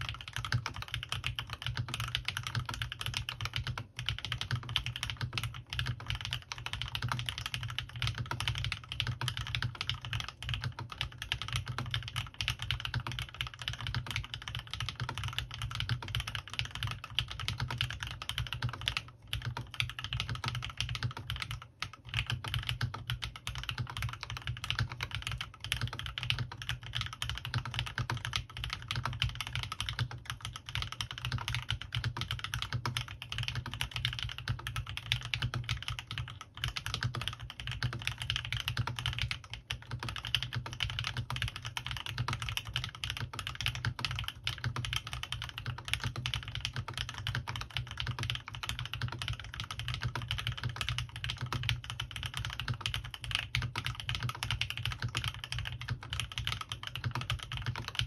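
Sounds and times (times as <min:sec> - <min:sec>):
fast typing on mechanical keyboard: 0:00.0 - 0:58.0.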